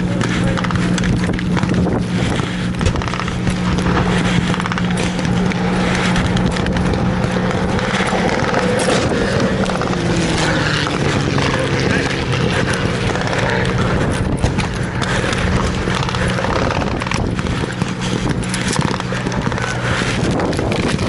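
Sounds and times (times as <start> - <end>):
clicks and clatter: 0.0 - 21.0
engine droning: 0.0 - 21.0.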